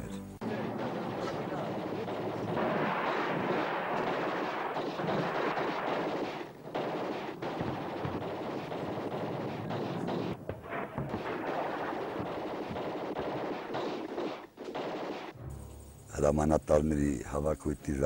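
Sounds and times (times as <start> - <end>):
rapid automatic gunfire: 0.4 - 15.4.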